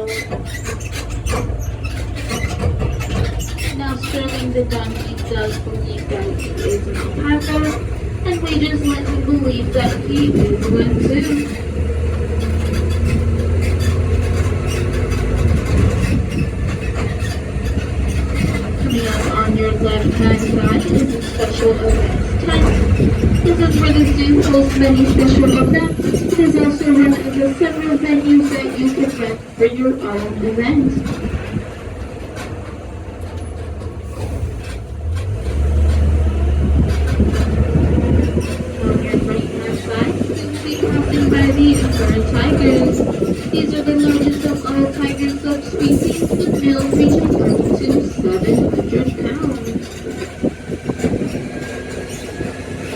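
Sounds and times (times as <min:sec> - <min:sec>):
tram engine hum: 0:00.0 - 0:52.9.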